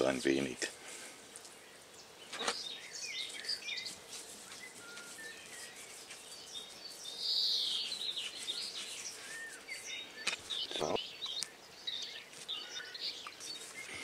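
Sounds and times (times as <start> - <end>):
small birds chirping: 0.0 - 14.0
scratchy bird call: 2.3 - 14.0.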